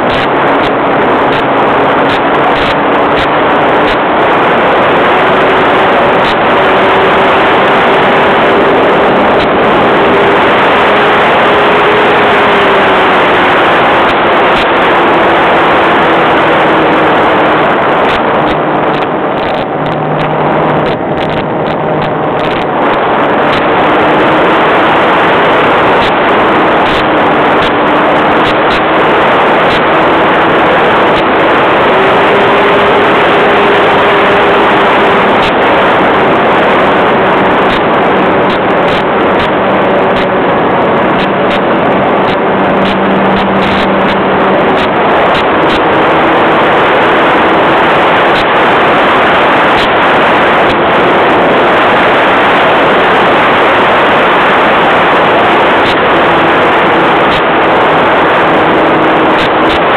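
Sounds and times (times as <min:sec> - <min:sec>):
model airplane engine drone: 0:00.0 - 0:59.9
rushing airflow noise: 0:00.0 - 0:59.9.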